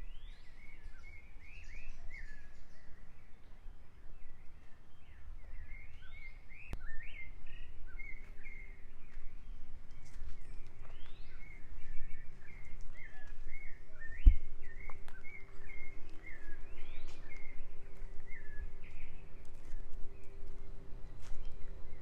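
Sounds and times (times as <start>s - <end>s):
birds singing: 0.0s - 22.0s
low outdoor rumble: 0.0s - 22.0s.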